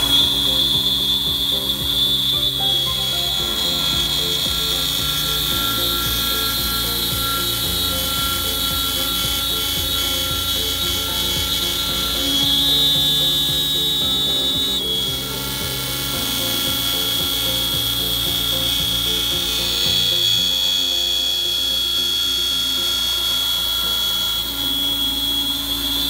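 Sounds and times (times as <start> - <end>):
milling machine high-pitched whine: 0.0 - 26.0.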